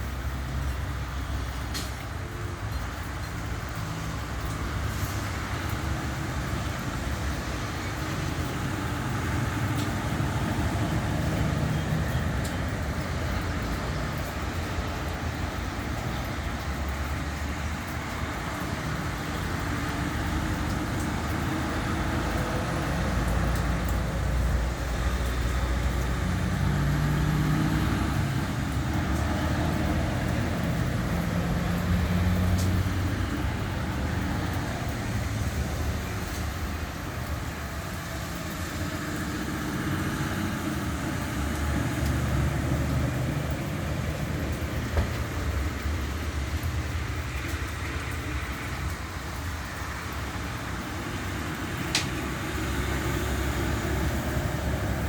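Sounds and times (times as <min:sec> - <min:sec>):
low engine rumbles: 0:00.0 - 0:55.0
vehicles passing on wet road: 0:00.0 - 0:55.0.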